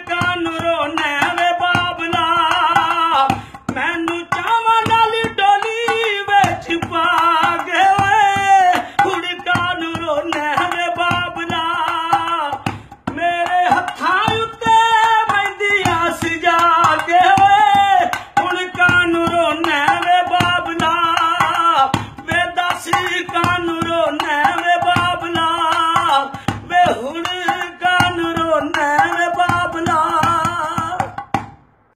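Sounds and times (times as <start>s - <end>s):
person singing folk song: 0.0s - 31.4s
hand drum beat: 0.0s - 31.7s.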